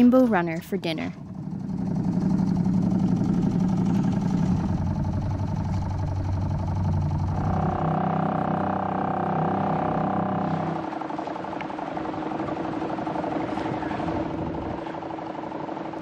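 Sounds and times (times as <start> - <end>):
small boat engine running: 0.0 - 16.0.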